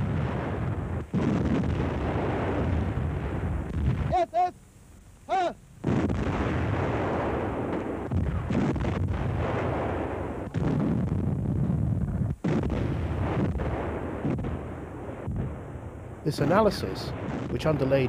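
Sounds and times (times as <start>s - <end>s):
artillery and gunfire explosions: 0.0s - 4.3s, 5.8s - 18.0s.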